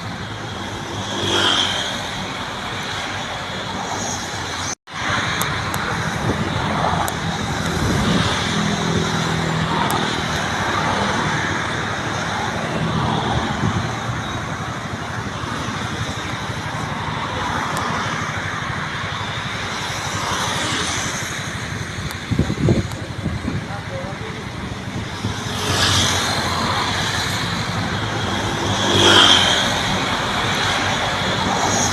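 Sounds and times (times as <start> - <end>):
road traffic hiss: 0.0 - 31.9.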